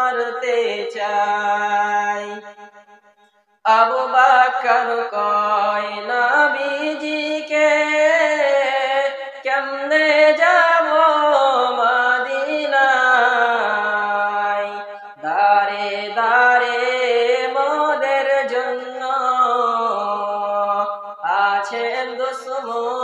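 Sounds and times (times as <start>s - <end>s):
man singing unaccompanied: 0.0s - 2.6s, 3.7s - 23.0s.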